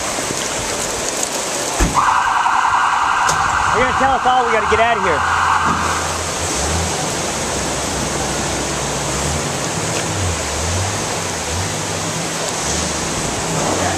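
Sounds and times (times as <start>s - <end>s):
floodwater rushing: 0.0s - 13.9s.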